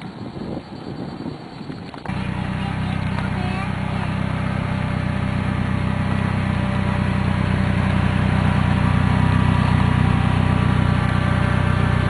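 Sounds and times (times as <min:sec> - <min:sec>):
utility vehicle engine running: 0:01.5 - 0:12.0.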